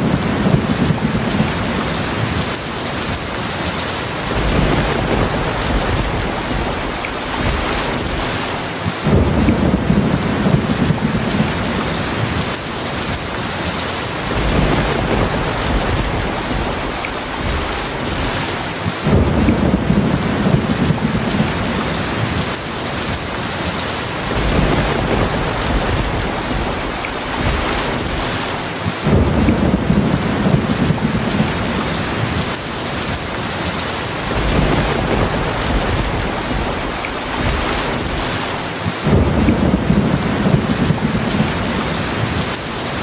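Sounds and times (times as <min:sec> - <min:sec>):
rolling thunder: 0:00.0 - 0:03.2, 0:04.1 - 0:13.2, 0:14.2 - 0:23.2, 0:24.1 - 0:42.7
heavy rain: 0:00.0 - 0:43.0.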